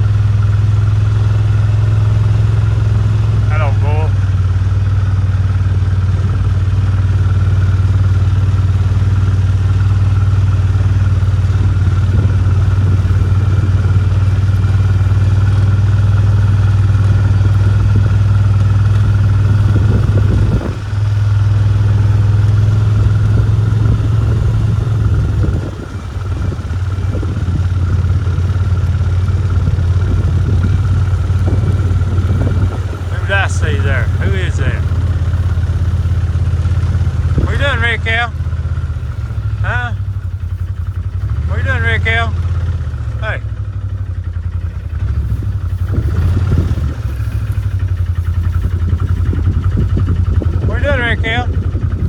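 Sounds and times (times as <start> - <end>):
vehicle engine running steadily: 0.0 - 52.0.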